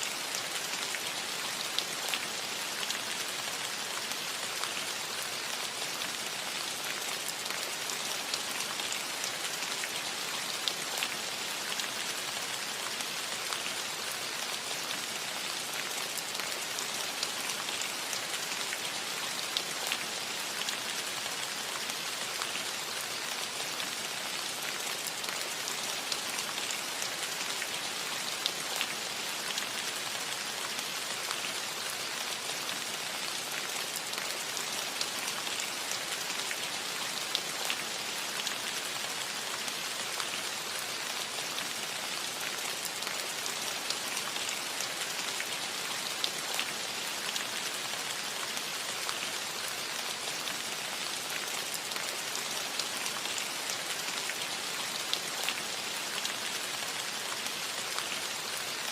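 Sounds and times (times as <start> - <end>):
rain on a metal roof: 0.0 - 58.9.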